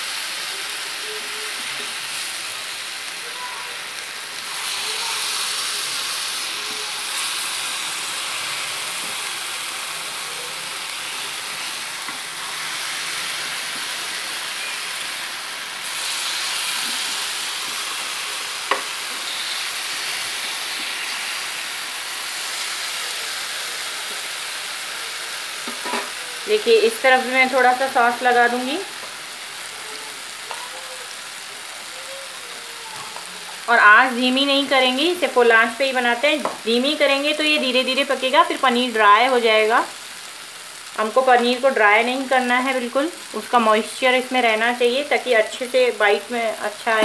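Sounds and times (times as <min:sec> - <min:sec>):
food sizzling on grill pan: 0:00.0 - 0:47.0.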